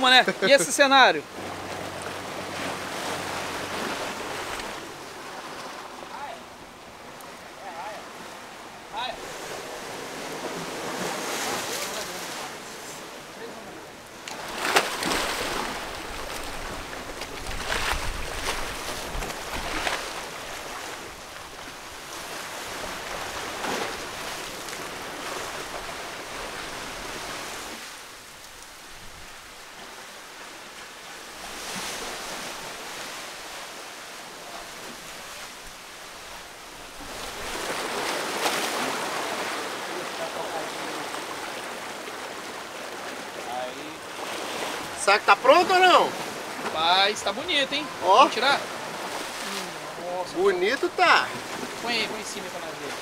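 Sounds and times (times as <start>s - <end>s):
surf washing against rocks: 0.0s - 53.0s.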